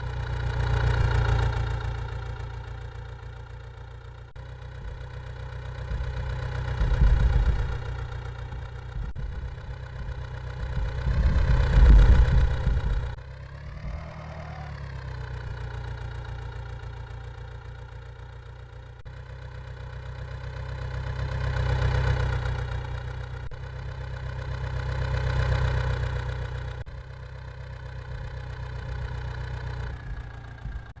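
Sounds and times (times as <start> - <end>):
vehicle engine idling and revving: 0.0 - 31.0.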